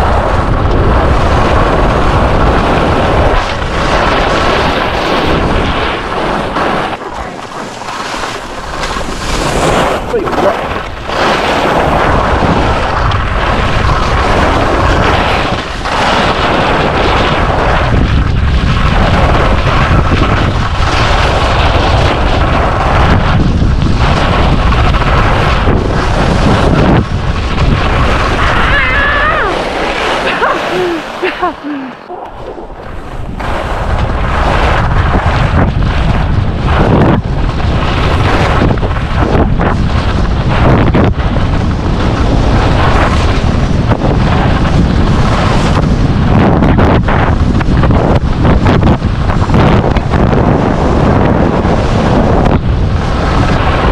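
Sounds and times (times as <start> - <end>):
skis scraping over snow: 0.0 - 53.9
wind buffeting microphone: 0.0 - 53.9.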